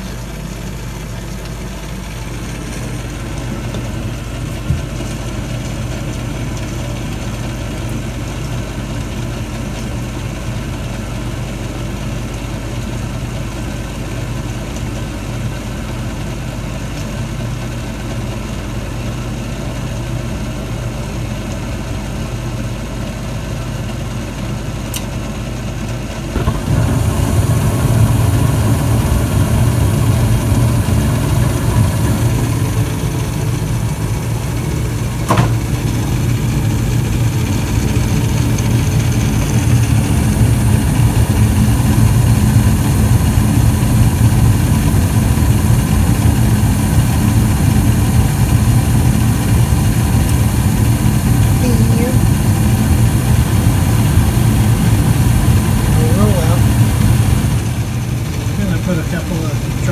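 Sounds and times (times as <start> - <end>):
furnace motor humming: 0.0 - 59.9
gas burner flame rumbling: 0.0 - 59.9.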